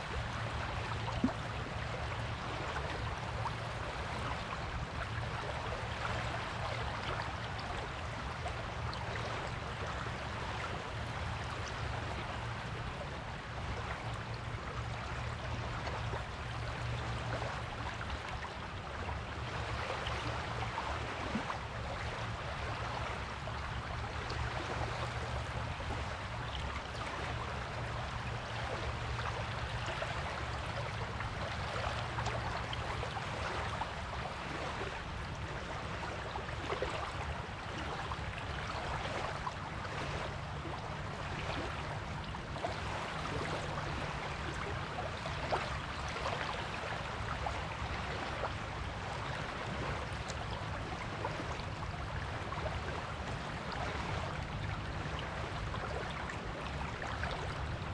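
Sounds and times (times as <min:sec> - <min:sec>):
waves washing on beach: 0:00.0 - 0:57.9.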